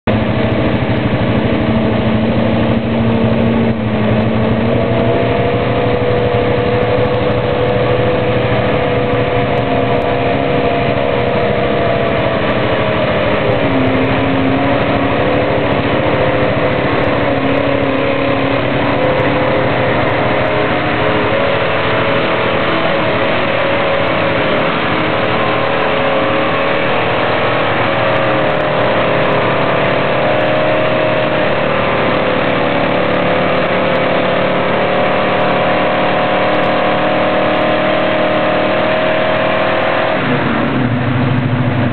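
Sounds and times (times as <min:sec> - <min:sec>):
truck engines revving: 0:00.0 - 0:41.9.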